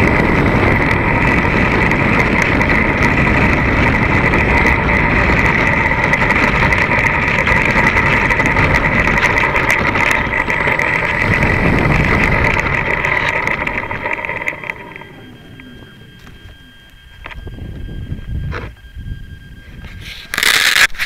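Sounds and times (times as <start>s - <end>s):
electric motor and propeller whining: 0.0s - 21.0s
small wheels rolling on pavement: 0.0s - 21.0s.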